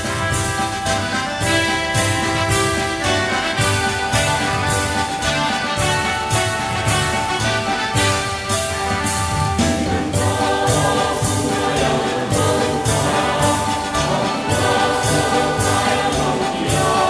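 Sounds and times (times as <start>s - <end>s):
choir singing: 0.0s - 17.0s
recorded accompaniment with beat: 0.0s - 17.0s.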